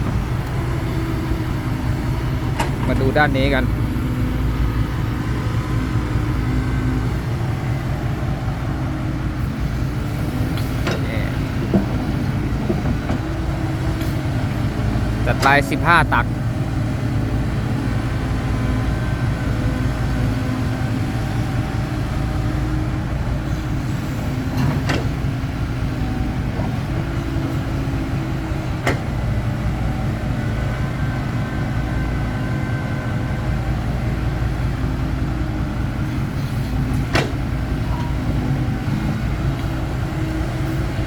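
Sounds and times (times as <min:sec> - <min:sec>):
dirt loading into truck: 0:00.0 - 0:41.0
excavator engine and hydraulics: 0:00.0 - 0:41.0.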